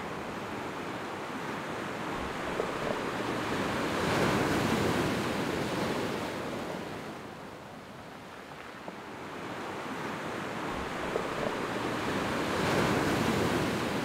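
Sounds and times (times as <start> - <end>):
sea surf on stony shore: 0.0 - 14.0.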